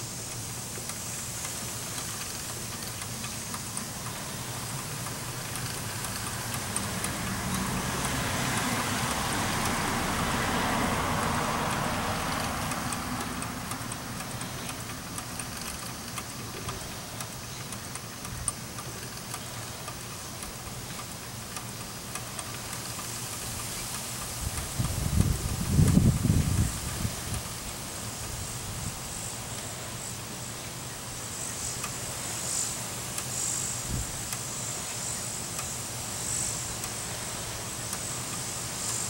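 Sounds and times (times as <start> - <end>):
steam engine hissing and ticking: 0.0 - 39.0.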